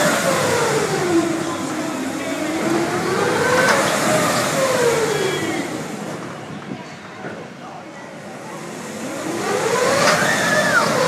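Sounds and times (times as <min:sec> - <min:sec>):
ride machinery whining: 0:00.0 - 0:11.0.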